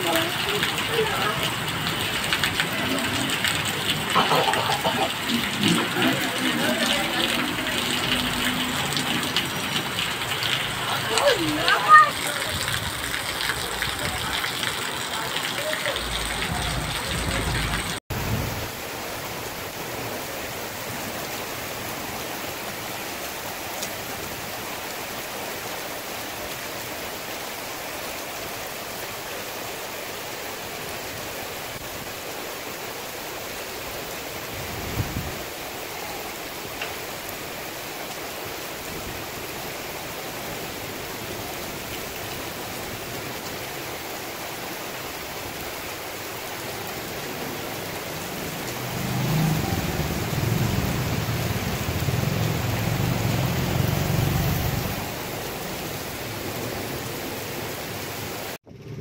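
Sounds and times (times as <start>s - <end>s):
running water: 0.0s - 58.6s
heavy rain on street: 0.0s - 59.0s.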